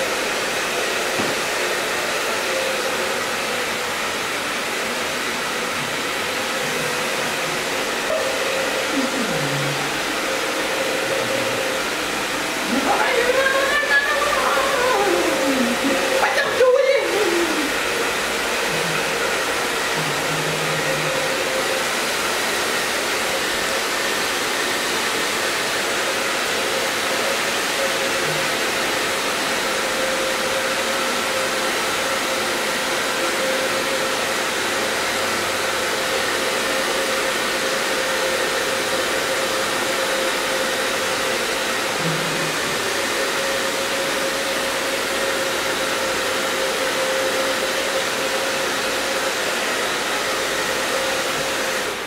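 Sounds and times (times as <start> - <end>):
hair dryer running: 0.0 - 52.0.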